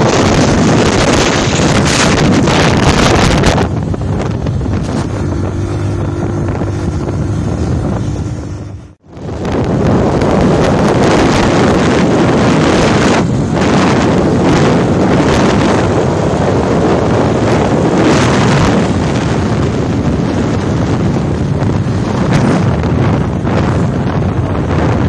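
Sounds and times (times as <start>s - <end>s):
motorbike vehicle noise: 0.0s - 25.0s
wind rushing over microphone: 0.0s - 25.0s.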